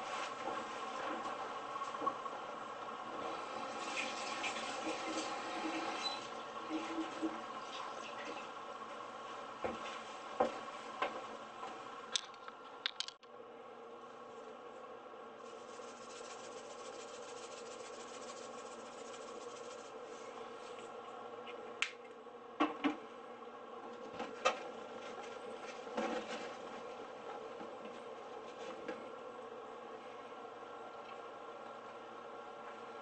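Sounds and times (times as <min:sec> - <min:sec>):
kitchen appliance buzzing hum: 0:00.0 - 0:33.0.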